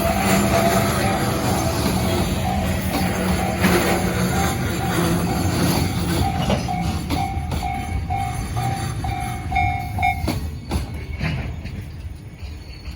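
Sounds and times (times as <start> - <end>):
freight train rolling past: 0.0 - 12.9
wheels clicking over rail joints: 0.0 - 12.9.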